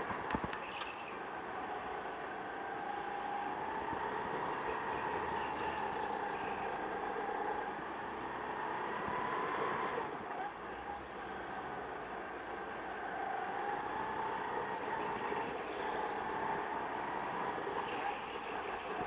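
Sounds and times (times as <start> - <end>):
go-kart engine: 0.0 - 19.0.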